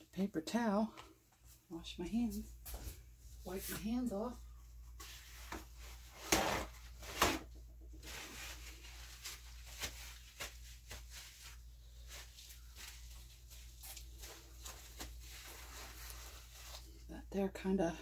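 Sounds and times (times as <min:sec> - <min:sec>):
paper towel rustling: 0:02.3 - 0:17.1.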